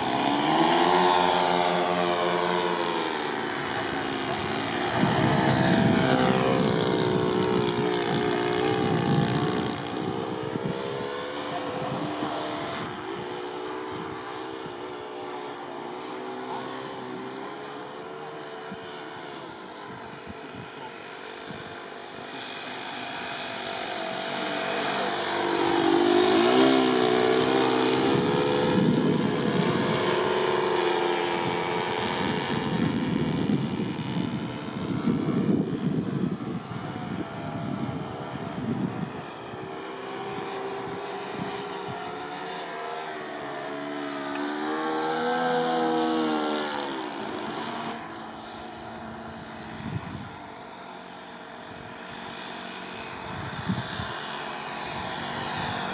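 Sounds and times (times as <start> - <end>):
propeller plane engine drone: 0.0 - 55.9.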